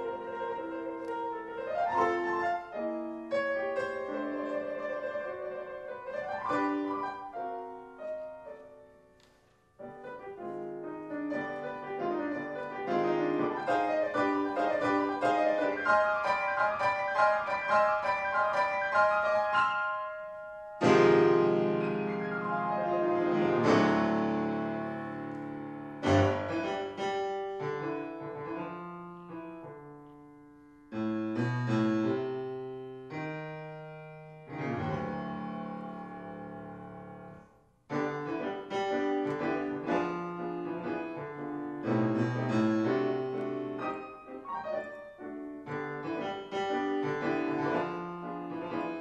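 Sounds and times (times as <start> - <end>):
solo classical piano: 0.0 - 49.0.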